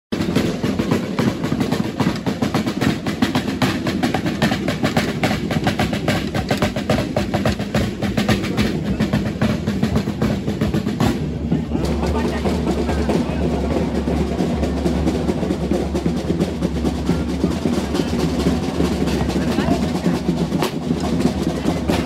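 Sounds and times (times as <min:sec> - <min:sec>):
street drums rolling beat: 0:00.1 - 0:22.0.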